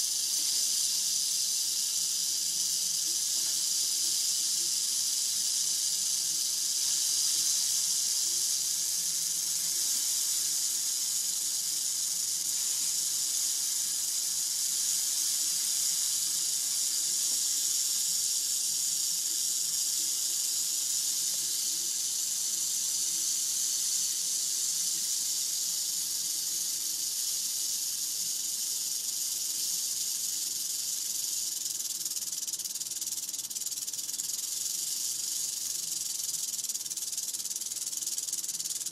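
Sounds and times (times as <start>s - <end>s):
rattlesnake rattling: 0.0s - 38.9s.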